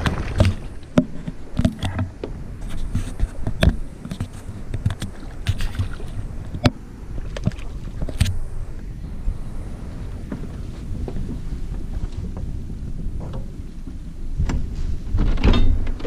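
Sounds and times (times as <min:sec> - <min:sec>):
knocks and clicks on boat hull: 0:00.0 - 0:08.4, 0:10.2 - 0:16.0
low steady rumble: 0:00.0 - 0:16.0.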